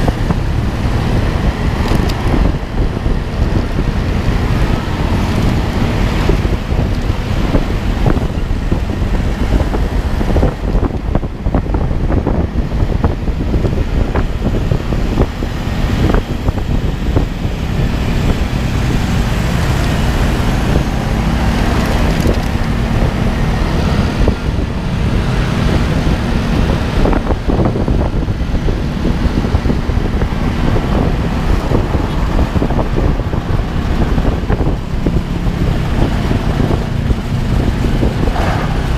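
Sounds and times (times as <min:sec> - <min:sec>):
moving vehicle rumble: 0:00.0 - 0:38.9
wind buffeting microphone: 0:00.0 - 0:38.9.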